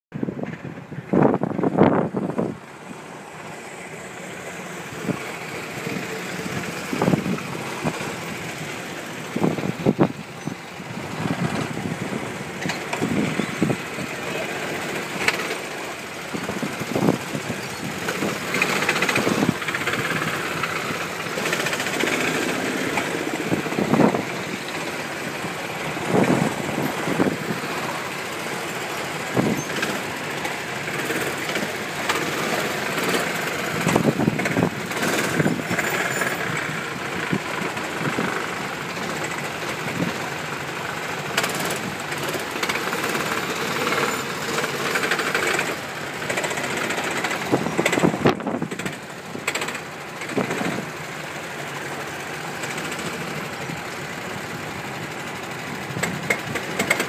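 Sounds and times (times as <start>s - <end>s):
go-kart engines: 0.2s - 57.0s.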